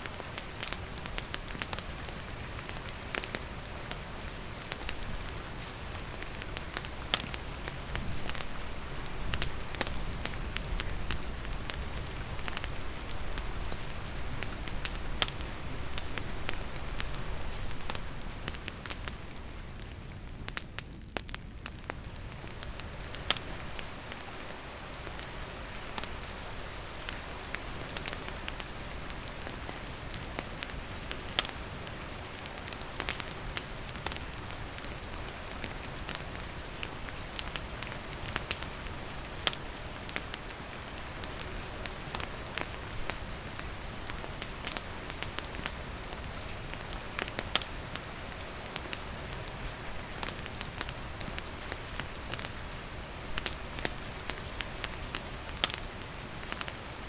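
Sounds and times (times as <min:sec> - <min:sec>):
campfire crackling and popping: 0:00.0 - 0:57.0
steady rain falling: 0:00.0 - 0:57.0.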